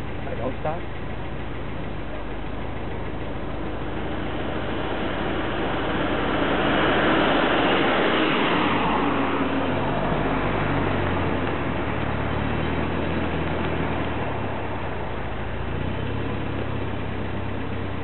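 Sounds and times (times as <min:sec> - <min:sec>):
road and wind noise: 0:00.0 - 0:18.0
vehicle engine hum: 0:00.0 - 0:18.0.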